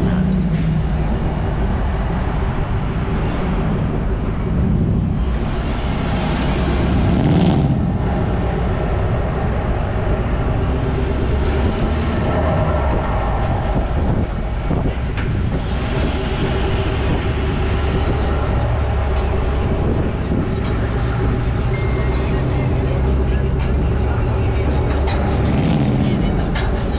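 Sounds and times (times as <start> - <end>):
truck engine droning: 0.0 - 26.9
tyre and road noise: 0.0 - 26.9.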